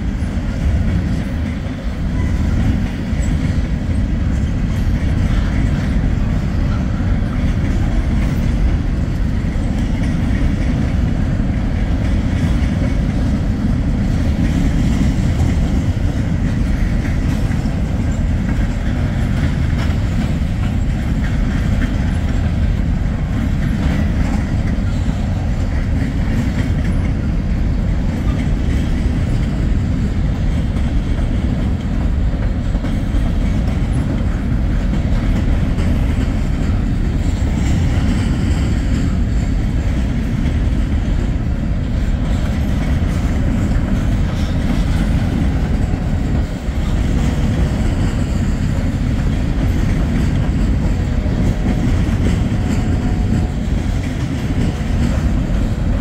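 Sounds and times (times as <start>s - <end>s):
freight train cars rumbling: 0.0s - 56.0s
wheels clicking over rail joints: 0.0s - 56.0s.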